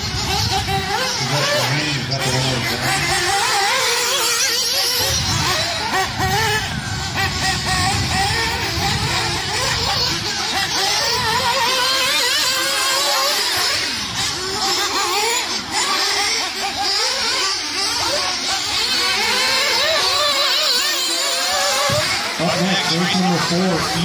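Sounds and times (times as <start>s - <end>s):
rc buggy motors whining: 0.0s - 24.0s.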